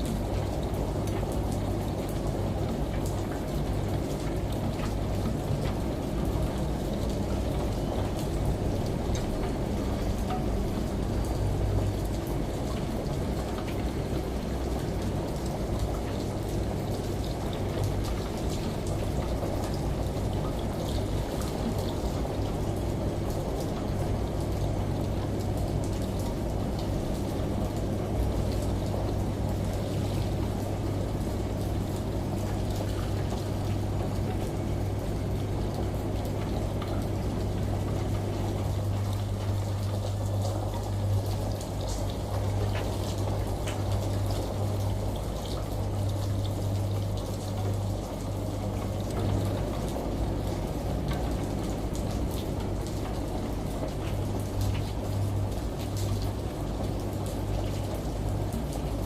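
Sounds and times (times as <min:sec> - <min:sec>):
shower water running: 0:00.0 - 0:59.0
steady rain: 0:00.0 - 0:59.0
washing machine humming: 0:00.0 - 0:59.0.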